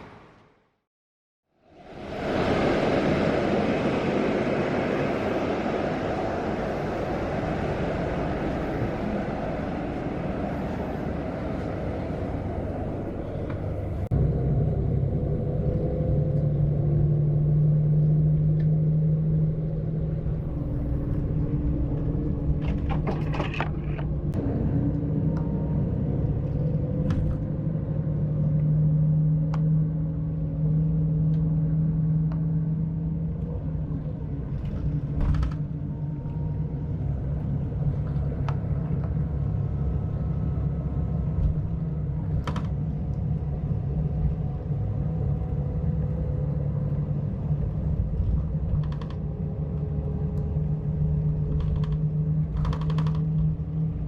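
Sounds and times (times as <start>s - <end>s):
bus engine and road rumble: 0.0s - 0.9s, 1.5s - 54.0s
constant hum: 1.6s - 54.0s.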